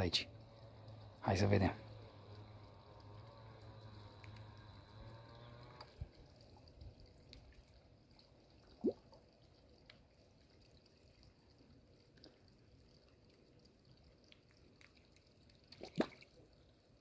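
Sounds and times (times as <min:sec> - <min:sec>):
small water plop: 0:02.0 - 0:17.0.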